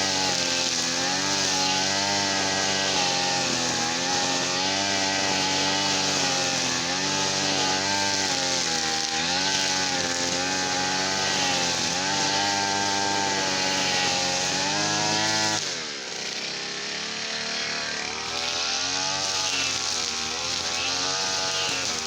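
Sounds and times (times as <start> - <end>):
brush cutter engine revving: 0.0 - 22.0.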